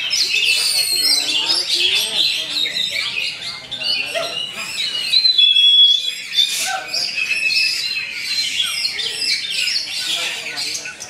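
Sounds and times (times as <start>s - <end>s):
bird singing whistles and rasps: 0.0s - 11.0s.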